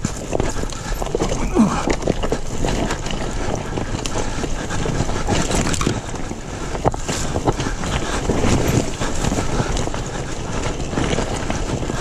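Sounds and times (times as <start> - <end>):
dirt bike engine running: 0.0 - 12.0
wind noise on microphone: 0.0 - 12.0.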